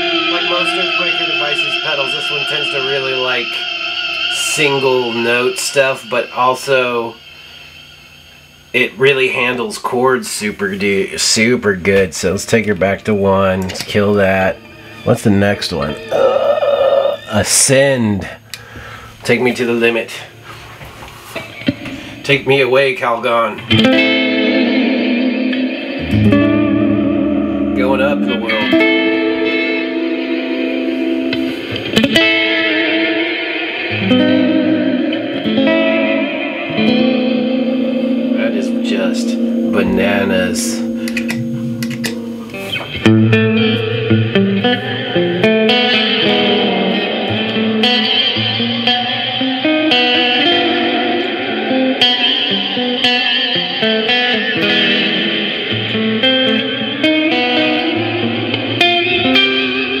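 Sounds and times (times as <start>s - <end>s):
electric guitar chords with reverb: 0.0s - 9.6s, 13.2s - 17.2s, 21.2s - 22.3s, 23.4s - 60.0s.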